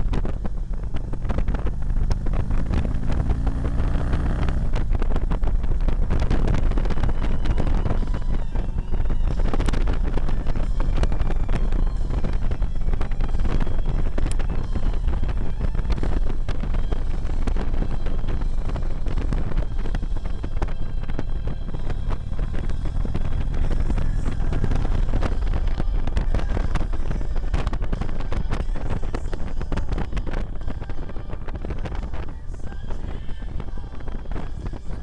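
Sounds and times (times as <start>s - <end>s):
motorcycle engine running: 0.0s - 35.0s
wind buffeting microphone: 0.0s - 35.0s.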